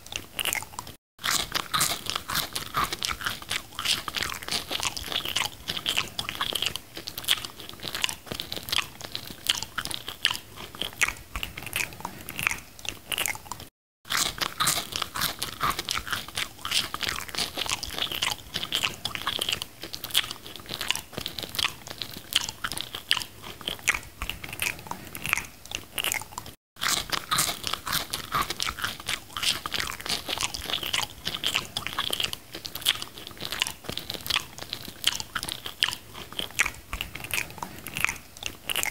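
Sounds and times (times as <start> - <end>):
chewing and biting food: 0.0 - 38.9.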